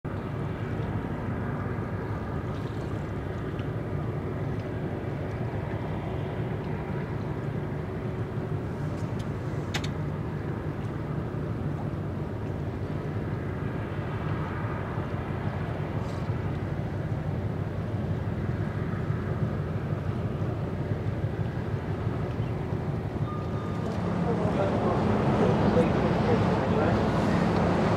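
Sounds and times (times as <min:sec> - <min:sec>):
distant ship engine rumble: 0:00.1 - 0:27.9.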